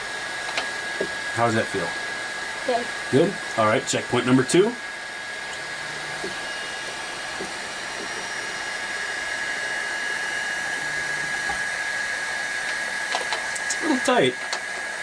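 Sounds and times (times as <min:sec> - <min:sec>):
cooling fan whirring: 0:00.0 - 0:15.0
stepper motor hums: 0:00.0 - 0:15.0.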